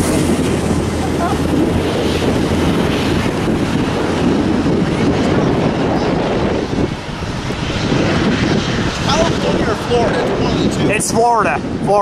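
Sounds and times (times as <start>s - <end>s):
jet engines roaring: 0.0s - 12.0s
wind on microphone: 0.0s - 12.0s.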